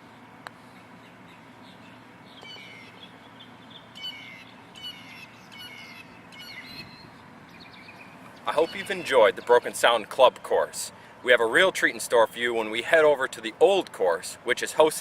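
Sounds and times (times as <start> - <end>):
birds chirping: 0.0 - 13.8
low background noise: 0.0 - 15.0.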